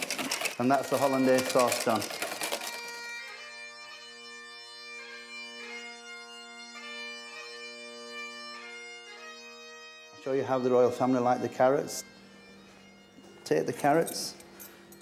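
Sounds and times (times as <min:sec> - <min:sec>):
bagpipe music: 0:00.0 - 0:15.0.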